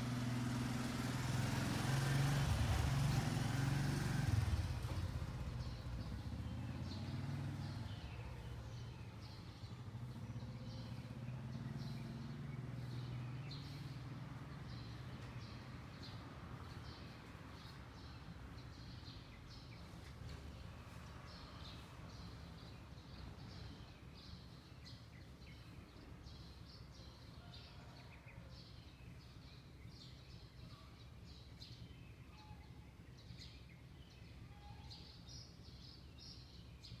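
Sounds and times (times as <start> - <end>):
neighbourhood background noise: 0.0 - 37.0
songbirds chirping: 0.0 - 37.0.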